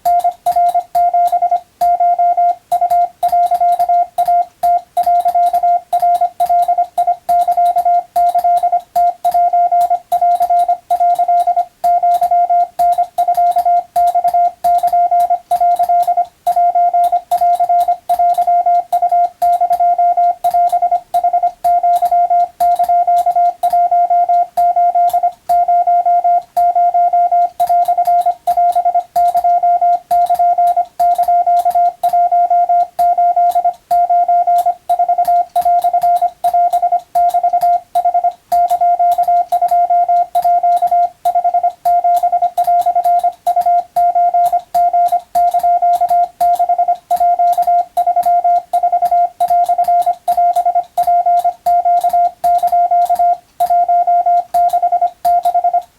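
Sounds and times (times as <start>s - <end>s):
faint keying clicks: 0.0s - 55.9s
morse code tone: 0.0s - 55.9s.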